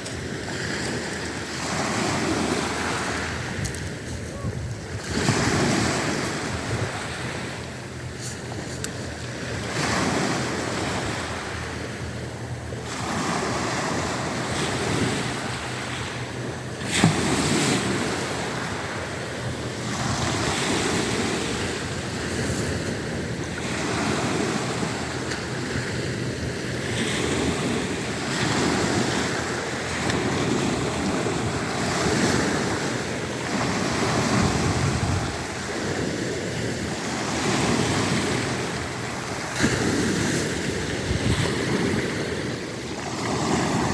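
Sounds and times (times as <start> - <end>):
waves breaking on shore: 0.0 - 43.9.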